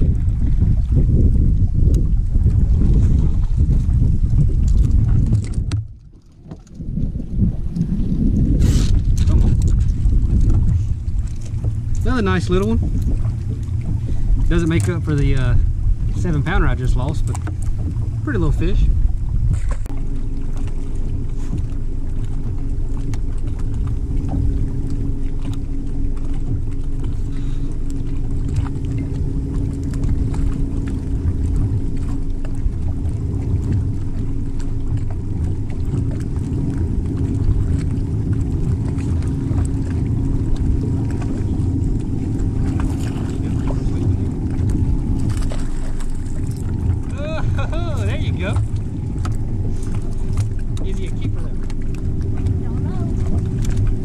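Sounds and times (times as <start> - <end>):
steady hum: 0.0 - 54.0
wind and water rumble: 0.0 - 54.0.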